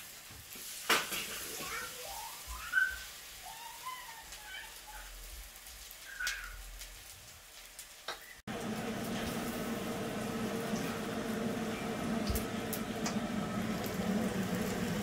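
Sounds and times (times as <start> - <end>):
fritters sizzling in hot oil: 0.0 - 15.0.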